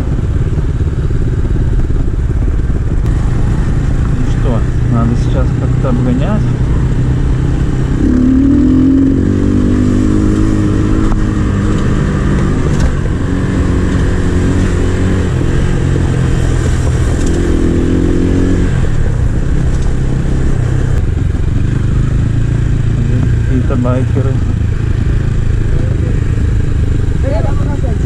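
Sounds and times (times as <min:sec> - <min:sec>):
motorcycle engine revving: 0:00.0 - 0:28.0
road and wind noise: 0:00.0 - 0:28.0.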